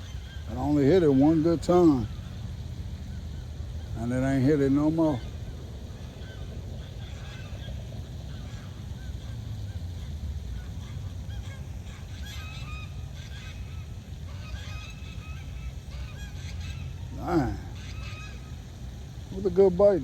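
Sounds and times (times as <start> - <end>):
birds calling: 0.0 - 20.0
steady low rumble: 0.0 - 20.0.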